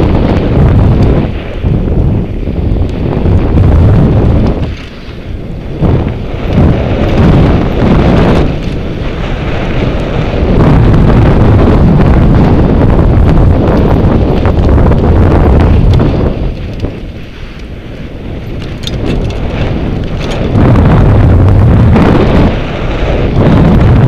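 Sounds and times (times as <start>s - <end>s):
bike clicks and rattles: 0.0s - 21.0s
wind buffeting microphone: 0.0s - 24.0s.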